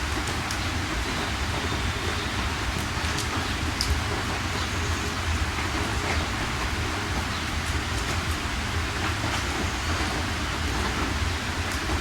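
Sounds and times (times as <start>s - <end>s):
heavy rain falling: 0.0s - 12.0s
patters of raindrops: 0.0s - 12.0s.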